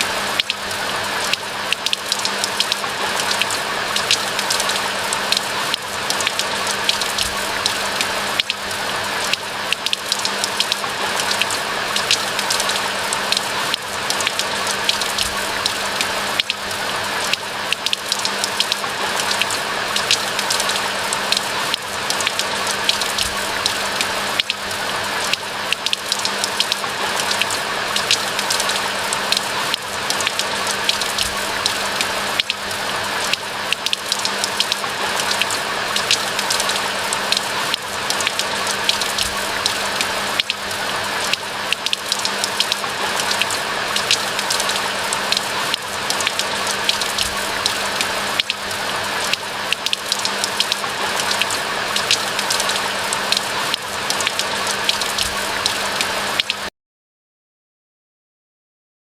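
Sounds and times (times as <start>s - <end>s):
steady rain falling: 0.0s - 56.7s.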